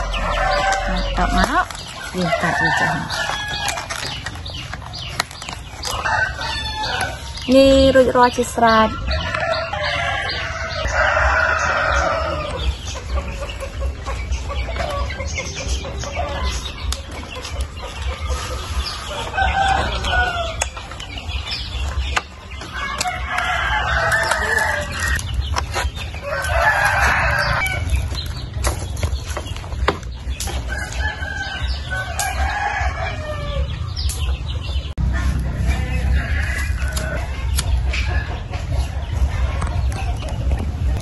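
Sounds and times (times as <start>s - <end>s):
roosters crowing: 0.0s - 41.0s.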